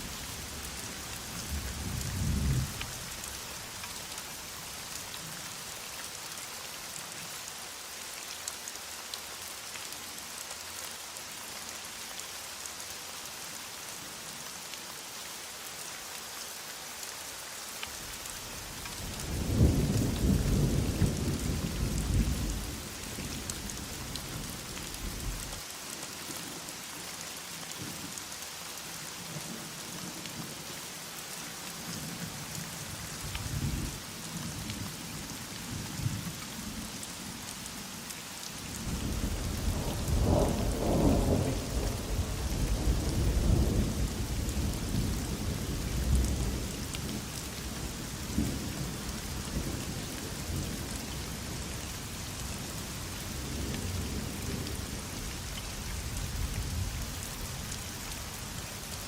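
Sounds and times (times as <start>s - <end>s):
heavy rain hissing: 0.0s - 14.6s, 15.4s - 29.3s, 30.4s - 59.0s.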